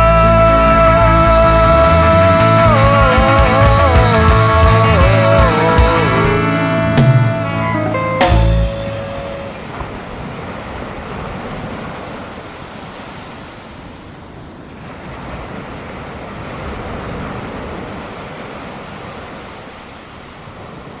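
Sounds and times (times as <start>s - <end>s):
ocean waves breaking: 0.6s - 21.0s.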